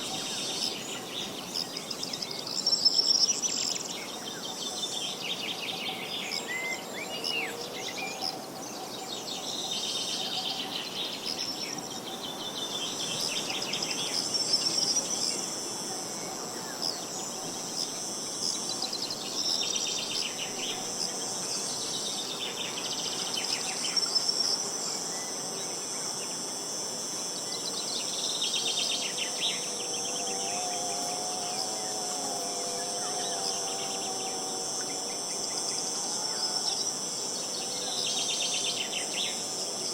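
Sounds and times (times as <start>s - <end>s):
insects trilling: 0.0s - 39.9s
light outdoor hiss: 0.0s - 39.9s.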